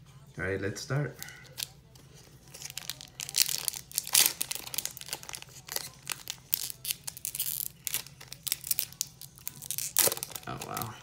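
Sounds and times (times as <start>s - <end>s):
foil wrapper crinkling: 1.2s - 11.0s.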